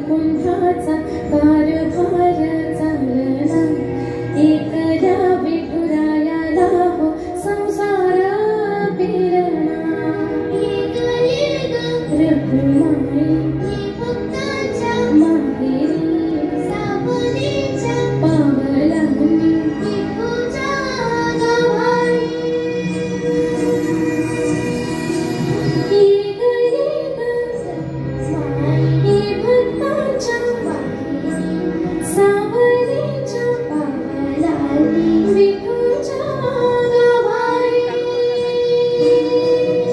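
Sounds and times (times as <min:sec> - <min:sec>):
women singing: 0:00.0 - 0:24.2, 0:25.9 - 0:31.1, 0:32.0 - 0:39.9
instrumental accompaniment: 0:00.0 - 0:39.9.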